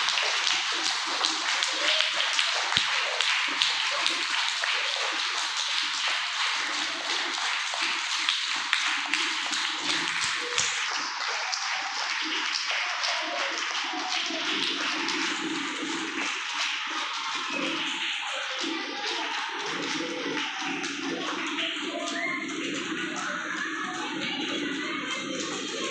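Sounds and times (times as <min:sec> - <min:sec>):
audience clapping: 0:00.0 - 0:25.9
murmur of voices: 0:00.0 - 0:25.9.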